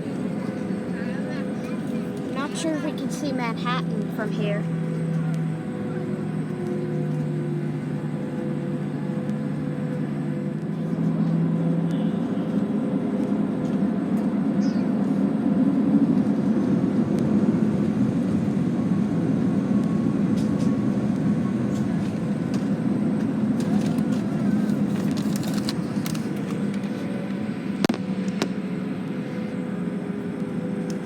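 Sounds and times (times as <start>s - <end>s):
airliner rolling rumble: 0.0s - 31.0s
jet engines humming: 0.0s - 31.0s.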